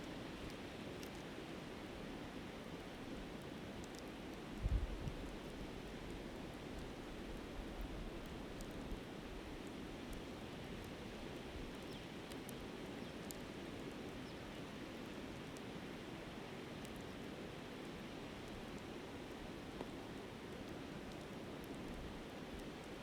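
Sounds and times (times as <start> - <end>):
campfire crackling: 0.4 - 23.0.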